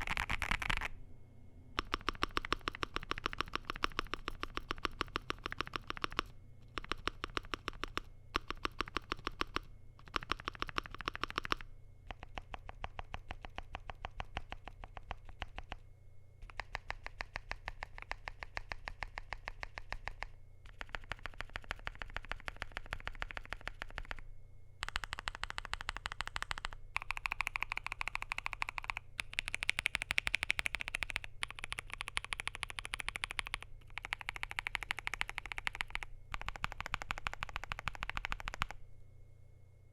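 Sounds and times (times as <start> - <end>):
fast typing on mechanical keyboard: 0.0 - 1.0, 1.8 - 15.8, 16.4 - 24.2, 24.8 - 38.8.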